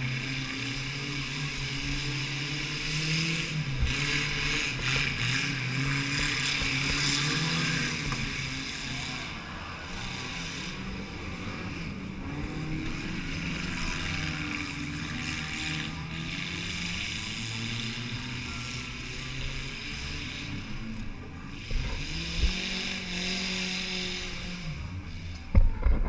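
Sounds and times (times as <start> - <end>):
car engine revving unevenly: 0.0 - 26.0.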